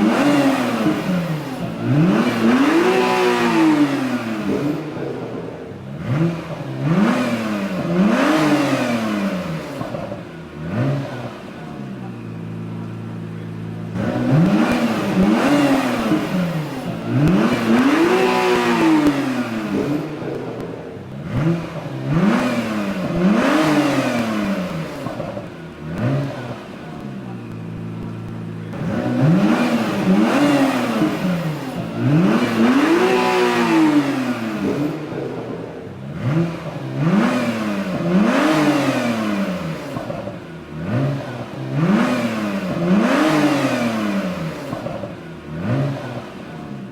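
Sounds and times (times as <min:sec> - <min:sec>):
car engine idling: 0:00.0 - 0:46.9
car engine revving: 0:00.0 - 0:46.9.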